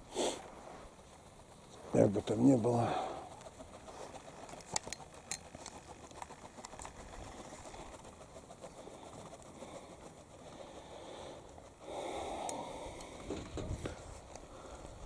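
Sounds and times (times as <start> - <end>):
faint pigeons cooing: 0.0 - 15.0.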